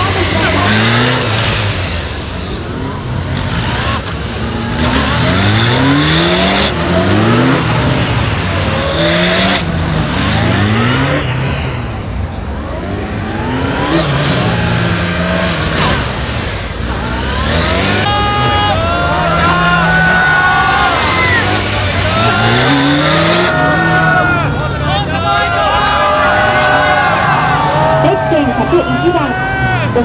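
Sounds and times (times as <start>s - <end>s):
motorcycle engine revving: 0.0s - 28.3s.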